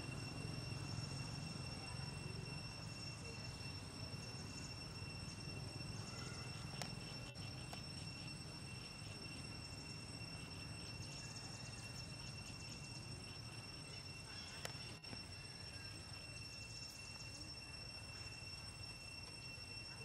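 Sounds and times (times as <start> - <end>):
insects droning: 0.0 - 20.0
rapid insect chirps: 0.0 - 20.0.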